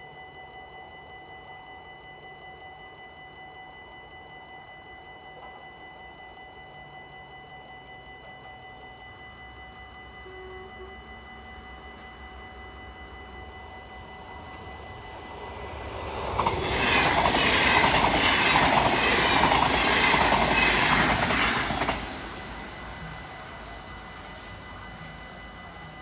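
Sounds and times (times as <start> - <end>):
electric train passing: 0.0 - 26.0
level crossing warning bell: 0.0 - 26.0.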